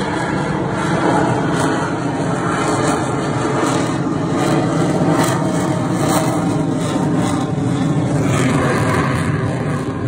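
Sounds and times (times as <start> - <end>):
fighter jet flying past: 0.0 - 10.0.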